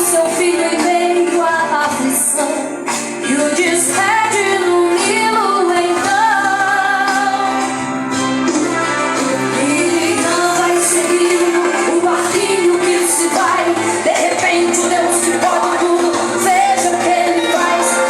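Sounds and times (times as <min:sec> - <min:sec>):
woman singing worship song: 0:00.0 - 0:07.9, 0:09.5 - 0:18.0
instrumental accompaniment: 0:00.0 - 0:18.0.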